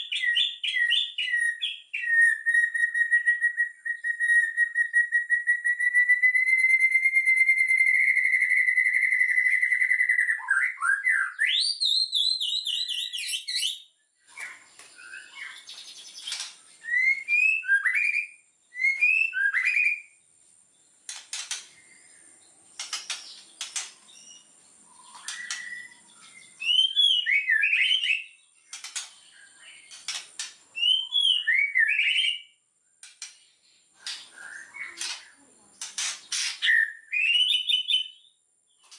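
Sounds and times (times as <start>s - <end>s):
bird singing whistles: 0.0s - 20.2s, 24.1s - 30.2s, 30.8s - 32.6s, 34.0s - 35.1s, 36.3s - 38.9s.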